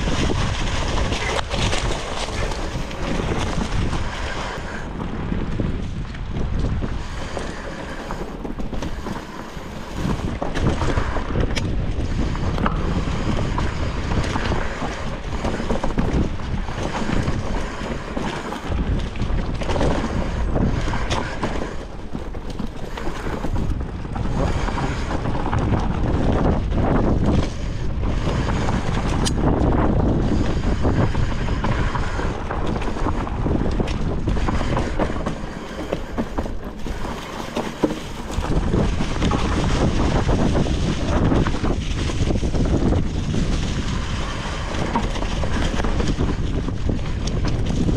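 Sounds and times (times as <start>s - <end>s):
bike knocks and rattles: 0.0s - 47.9s
tyres rolling over dirt and leaves: 0.0s - 47.9s
wind on microphone: 0.0s - 47.9s.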